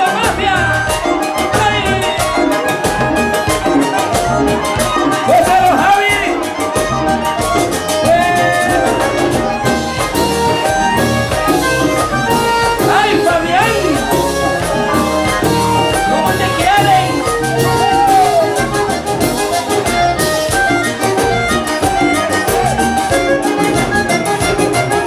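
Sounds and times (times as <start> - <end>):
accordion: 0.0 - 25.0
latin dance band: 0.0 - 25.0
percussion beat: 0.0 - 25.0.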